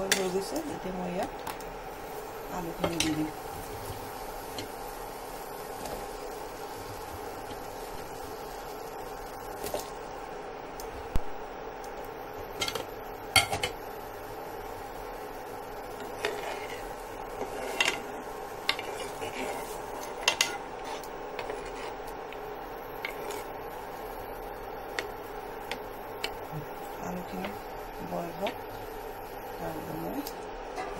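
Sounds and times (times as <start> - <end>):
steady hum: 0.0 - 30.9.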